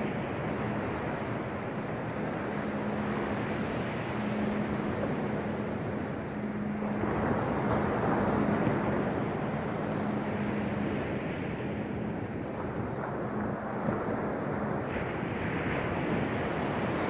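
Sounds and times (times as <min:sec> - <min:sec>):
small waves breaking on beach: 0:00.0 - 0:17.0
wind on microphone: 0:00.0 - 0:17.0.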